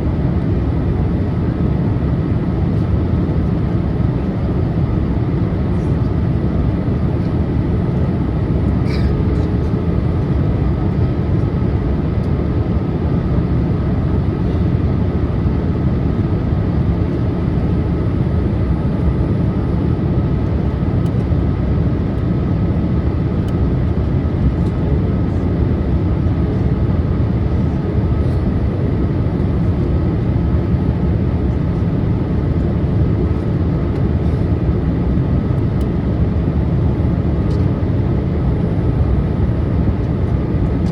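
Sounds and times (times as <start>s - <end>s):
airliner cabin engine rush: 0.0s - 40.9s.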